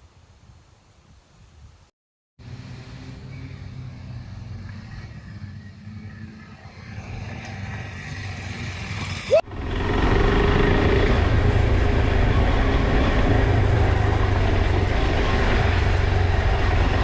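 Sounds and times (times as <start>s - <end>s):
motorcycle engine revving: 2.4s - 17.0s.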